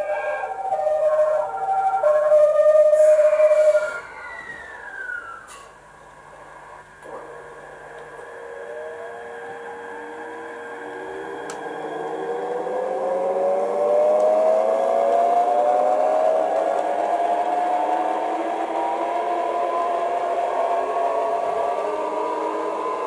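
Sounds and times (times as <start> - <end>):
electric train motor whine: 0.0 - 23.0.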